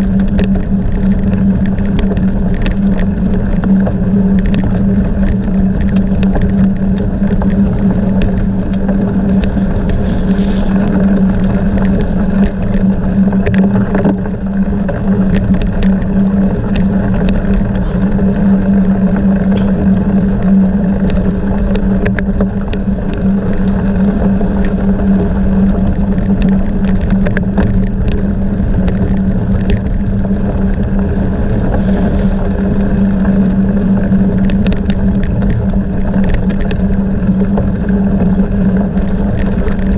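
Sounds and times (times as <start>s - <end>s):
bicycle rolling over gravel: 0.0s - 39.9s
bike and stones rattling: 0.0s - 39.9s
low hum: 0.0s - 39.9s
wind on microphone: 0.0s - 39.9s.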